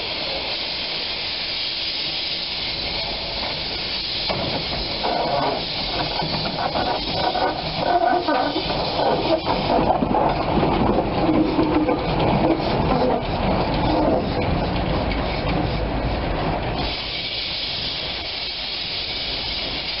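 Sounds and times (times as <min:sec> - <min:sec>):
steam hissing: 0:00.0 - 0:20.0
steam locomotive running: 0:00.0 - 0:20.0
wheels clattering on rails: 0:02.2 - 0:20.0.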